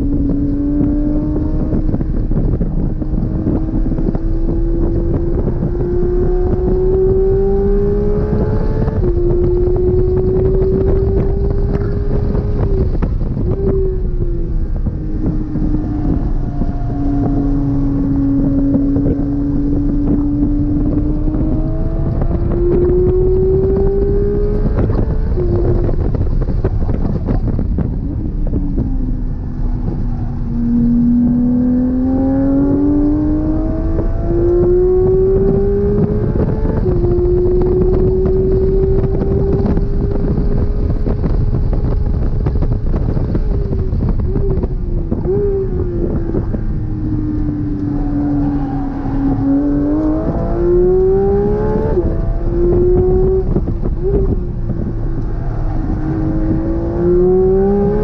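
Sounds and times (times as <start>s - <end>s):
sports car engine accelerating: 0.0s - 58.0s
wind and road noise: 0.0s - 58.0s.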